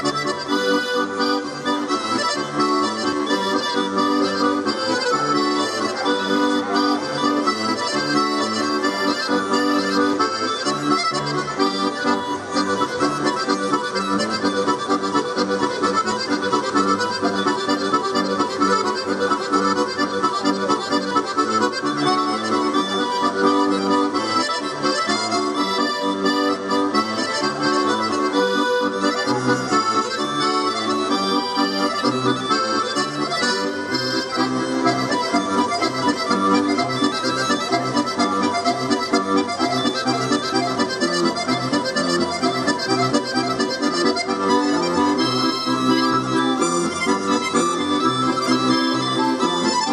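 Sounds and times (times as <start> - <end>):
accordion playing a tune: 0.0 - 49.9.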